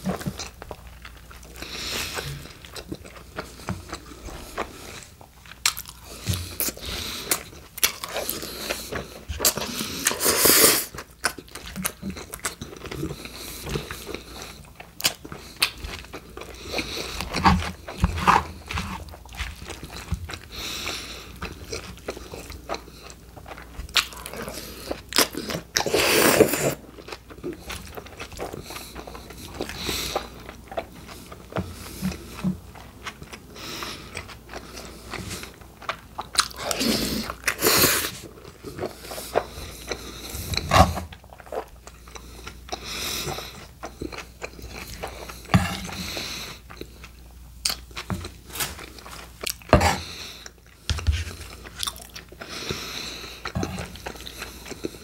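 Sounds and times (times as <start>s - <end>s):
lettuce crunching: 0.0s - 55.0s
wet chewing and biting: 0.0s - 55.0s.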